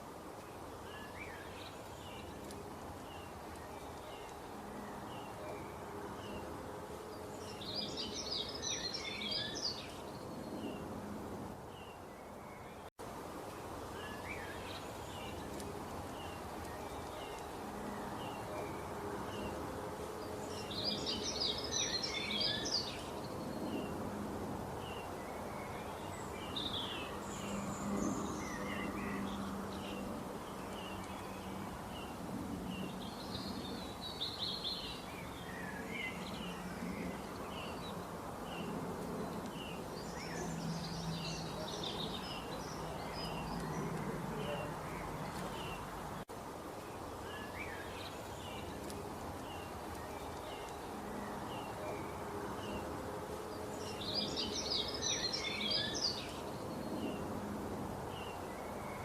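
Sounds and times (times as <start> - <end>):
small birds chirping: 0.0 - 24.1, 24.7 - 57.3.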